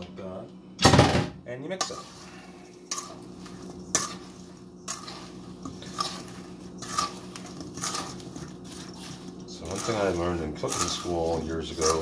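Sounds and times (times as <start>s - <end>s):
spatula scraping metal bowl: 1.7s - 12.0s.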